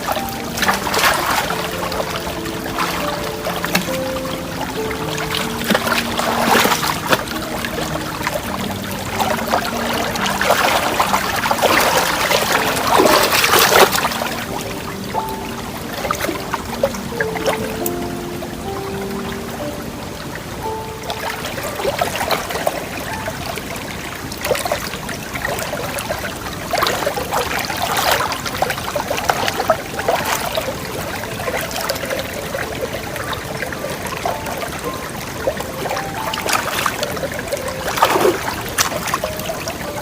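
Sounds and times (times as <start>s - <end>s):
water splashing and trickling: 0.0s - 40.0s.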